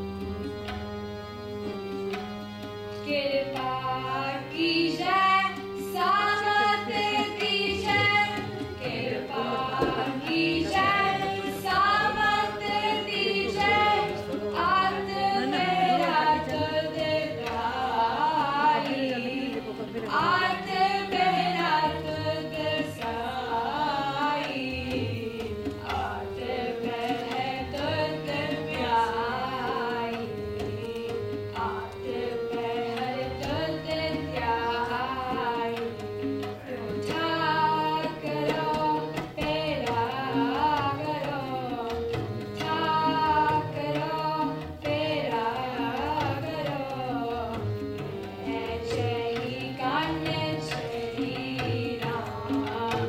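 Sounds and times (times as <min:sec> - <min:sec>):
harmonium drone and melody: 0:00.0 - 0:53.0
tabla rhythm: 0:00.0 - 0:53.0
woman singing: 0:03.0 - 0:36.0, 0:36.6 - 0:53.0.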